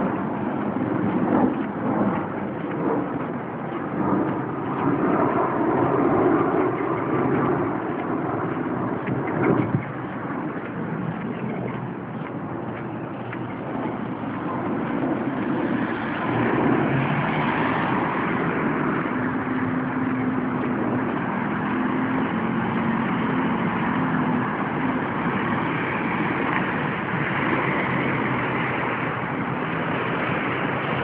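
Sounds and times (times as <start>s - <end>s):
street traffic: 0.0s - 31.0s
vehicle low engine hum: 0.0s - 31.0s.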